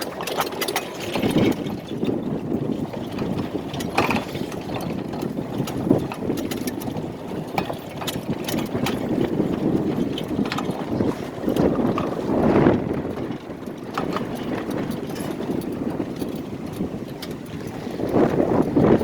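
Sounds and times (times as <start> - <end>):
clicks and rattles: 0.0 - 19.0.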